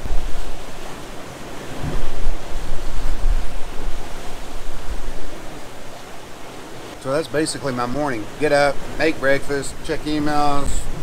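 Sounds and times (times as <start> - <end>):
wind buffeting microphone: 0.0 - 6.9, 8.3 - 11.0
sea rushing: 0.0 - 11.0.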